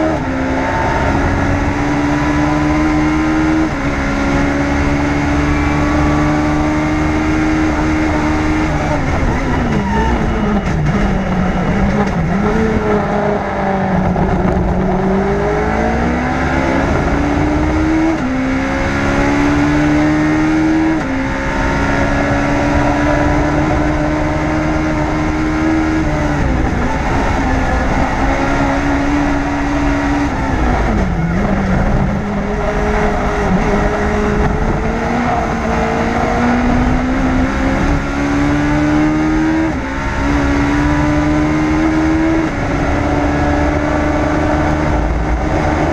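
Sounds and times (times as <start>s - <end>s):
race car engine revving: 0.0s - 45.9s
wind and road rush: 0.0s - 45.9s.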